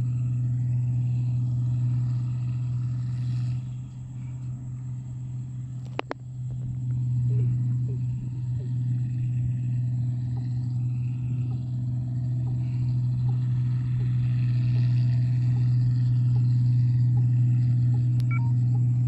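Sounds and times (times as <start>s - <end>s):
combine harvester droning: 0.0s - 19.0s.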